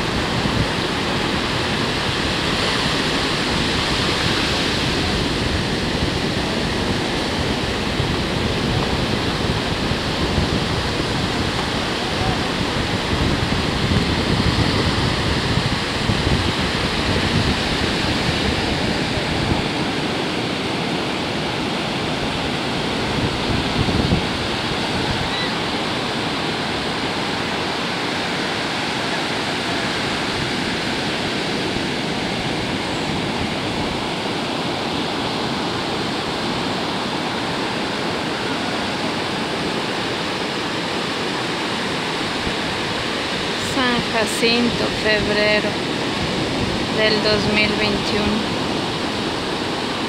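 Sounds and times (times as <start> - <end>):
ocean surf rushing: 0.0 - 50.0
wind on microphone: 0.0 - 50.0.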